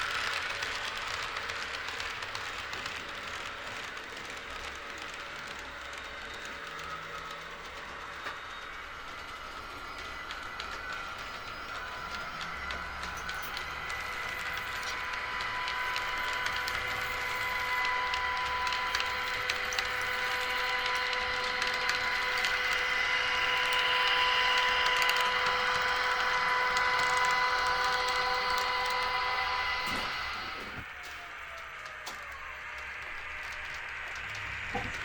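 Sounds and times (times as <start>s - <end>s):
small wheel clicks: 0.0s - 30.3s, 31.4s - 35.0s
model train electric whine: 0.0s - 35.0s.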